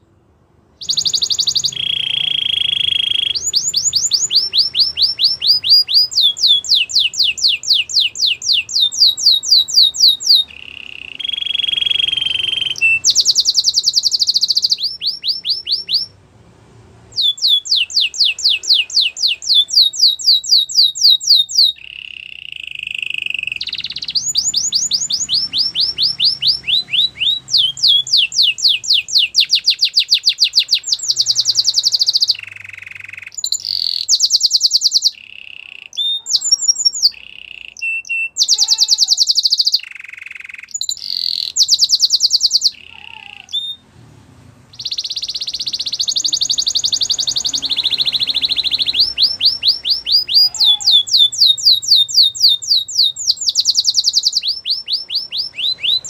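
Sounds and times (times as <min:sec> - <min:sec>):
canary whistle: 0:00.8 - 0:16.1, 0:17.1 - 0:43.8, 0:44.7 - 0:56.0
canary singing trills: 0:00.8 - 0:16.2, 0:17.1 - 0:44.0, 0:44.6 - 0:56.0.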